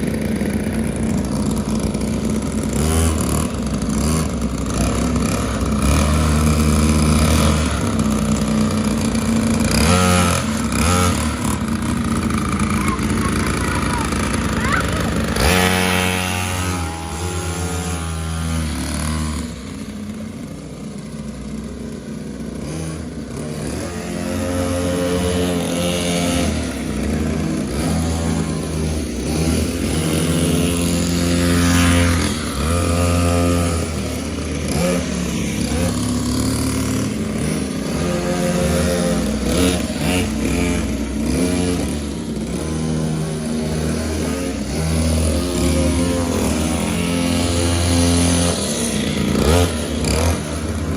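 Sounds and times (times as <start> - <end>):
mini motorcycle engines revving: 0.0 - 50.9.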